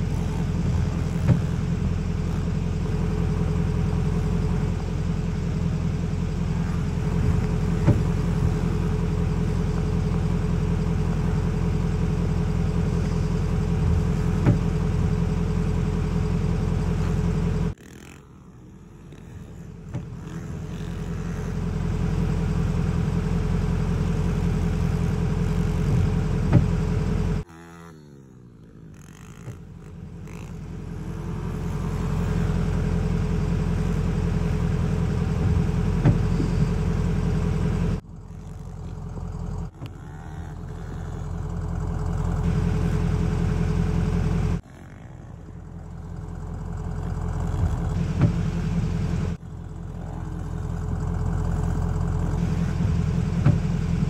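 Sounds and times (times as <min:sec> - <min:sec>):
pit bike engines revving: 0:00.0 - 0:54.0.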